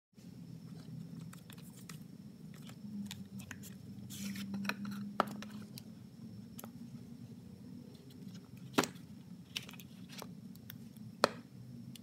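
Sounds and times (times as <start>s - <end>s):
steady low hum: 0.2s - 12.0s.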